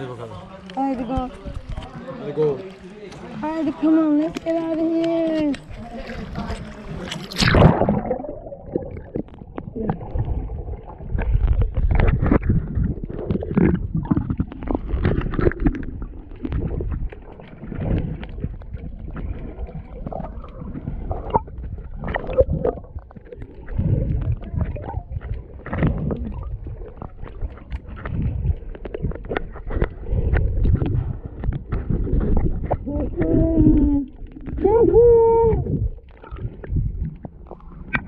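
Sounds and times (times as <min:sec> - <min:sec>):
water sloshing and gurgling: 0:00.0 - 0:38.0.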